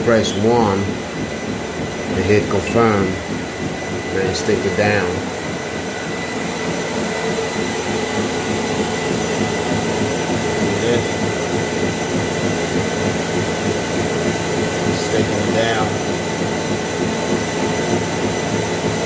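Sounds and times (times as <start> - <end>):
treadmill belt rumble: 0.0 - 19.0
treadmill motor whine: 0.0 - 19.0.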